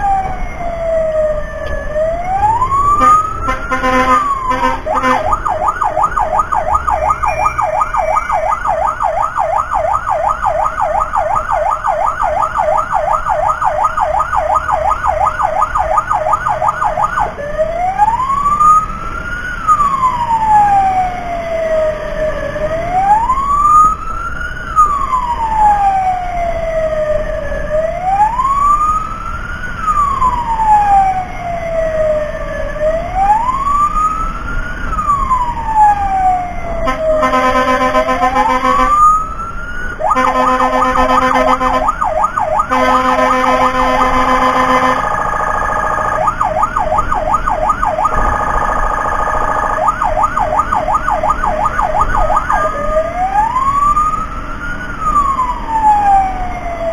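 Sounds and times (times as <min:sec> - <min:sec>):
emergency siren yelping and wailing: 0:00.0 - 0:56.9
faint siren wailing: 0:00.0 - 0:56.9.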